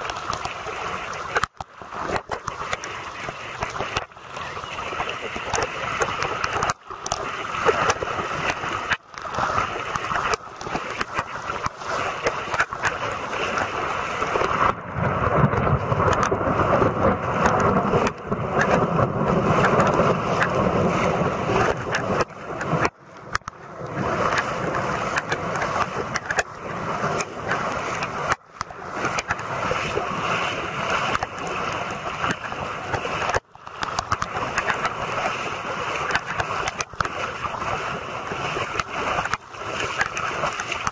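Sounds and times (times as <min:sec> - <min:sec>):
heavy rain and running water: 0:00.0 - 0:40.9.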